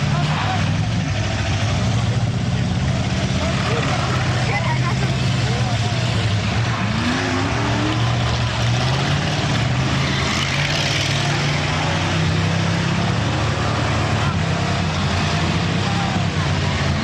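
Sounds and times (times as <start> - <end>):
car engines running: 0.0 - 17.0
engine rev: 0.0 - 17.0.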